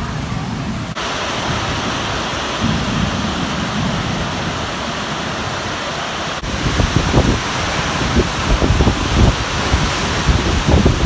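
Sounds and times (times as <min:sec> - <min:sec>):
heavy rain: 0:00.0 - 0:11.0
storm wind: 0:00.0 - 0:11.0.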